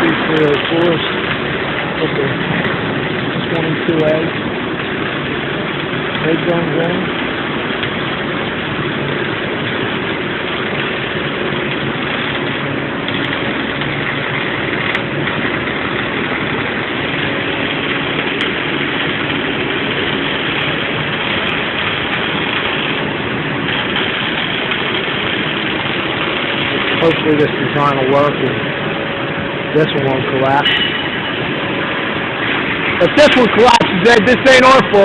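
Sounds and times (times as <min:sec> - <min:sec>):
welding arc hissing: 0:00.0 - 0:35.0.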